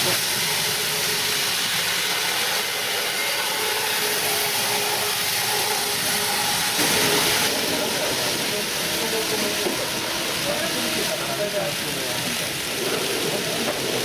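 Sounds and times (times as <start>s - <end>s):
model train whirring on track: 0.0s - 14.0s.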